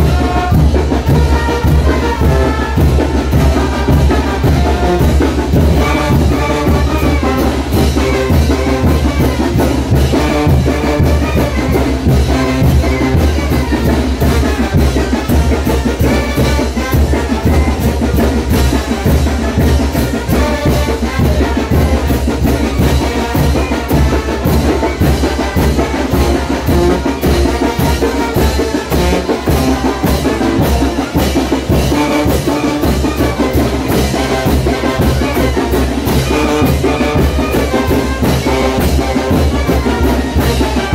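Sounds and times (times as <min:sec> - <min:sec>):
brass band playing: 0:00.0 - 0:40.9
drum beat: 0:00.0 - 0:40.9
trumpets: 0:00.0 - 0:40.9.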